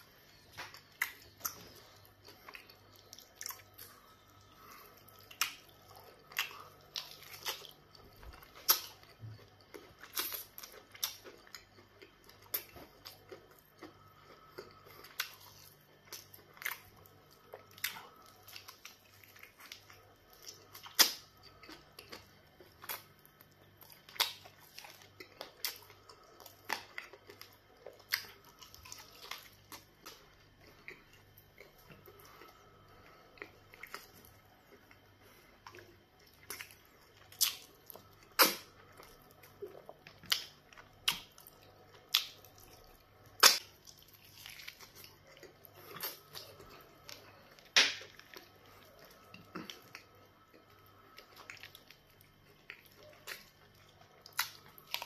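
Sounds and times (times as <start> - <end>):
wet chewing and mouth smacks: 0.0 - 55.0.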